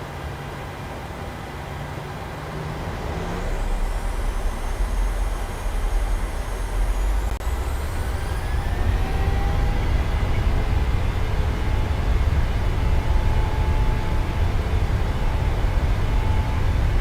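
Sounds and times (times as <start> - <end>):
jet engine rumble: 1.1 - 17.0
jet engine whine rising: 1.5 - 17.0.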